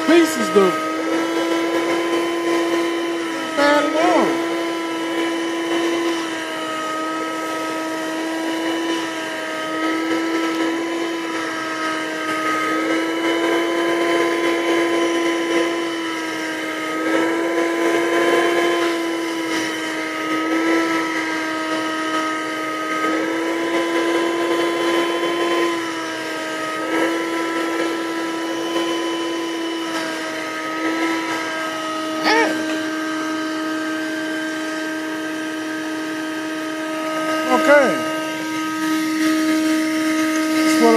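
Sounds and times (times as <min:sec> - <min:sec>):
vacuum motor whine: 0:00.0 - 0:40.9.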